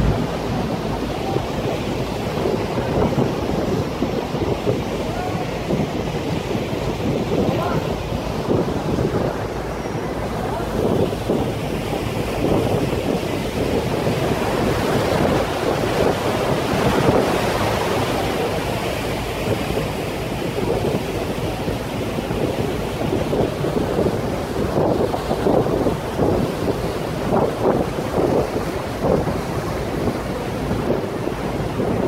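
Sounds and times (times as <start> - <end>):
water rushing along hull: 0.0 - 32.0
wind buffeting microphone: 0.0 - 32.0.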